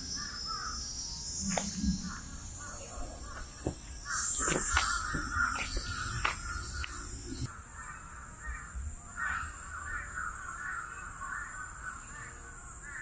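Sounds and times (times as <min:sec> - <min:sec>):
crows cawing: 0:00.1 - 0:00.8, 0:02.1 - 0:13.0.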